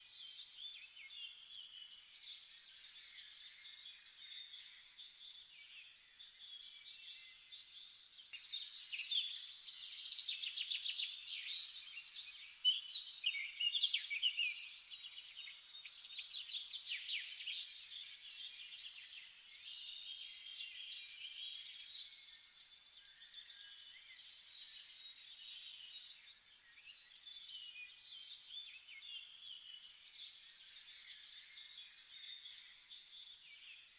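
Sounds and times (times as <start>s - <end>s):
small birds chirping and singing: 0.0s - 33.9s.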